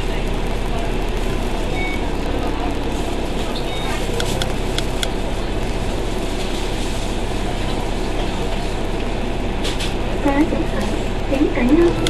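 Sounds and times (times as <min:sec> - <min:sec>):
bus engine idling: 0:00.0 - 0:12.0
radiator cooling fan whir: 0:00.0 - 0:12.0.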